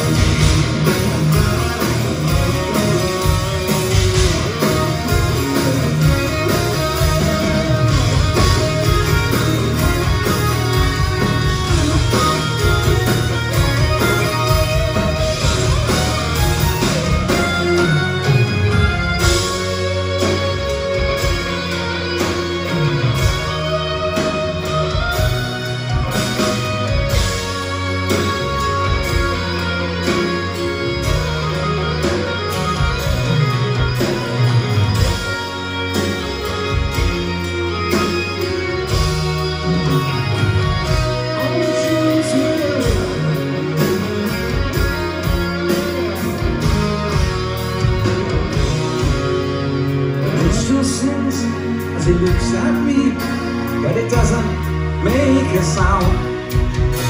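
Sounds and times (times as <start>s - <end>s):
electric guitar lead bending notes: 0.0s - 57.0s
live rock band playing: 0.0s - 57.0s.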